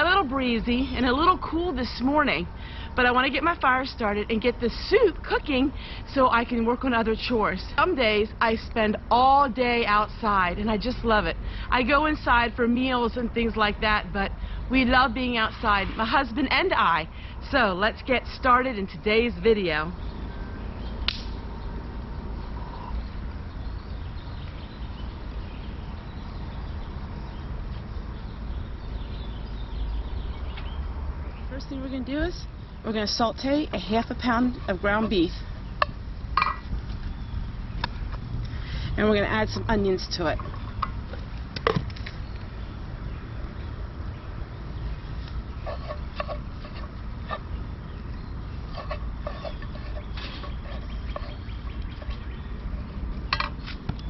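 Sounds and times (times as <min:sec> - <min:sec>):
faint birds chirping: 0:00.0 - 0:54.0.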